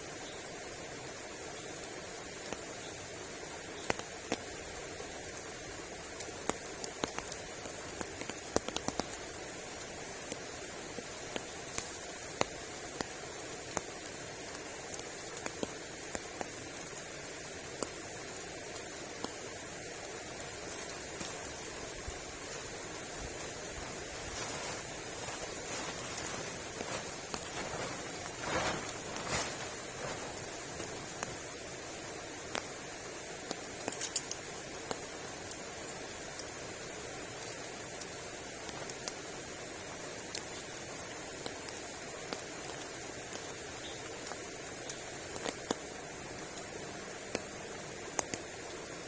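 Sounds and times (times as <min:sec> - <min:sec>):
heavy rain hissing: 0:00.0 - 0:49.0
raindrops tapping nearby: 0:00.0 - 0:49.0.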